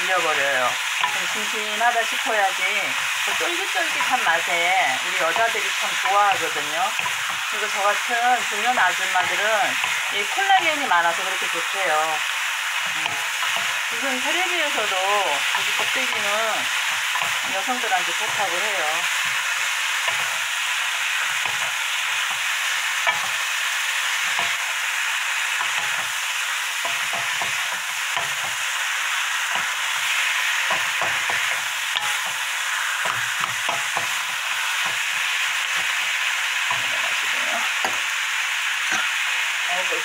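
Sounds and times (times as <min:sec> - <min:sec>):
food sizzling in frying pan: 0:00.0 - 0:40.0.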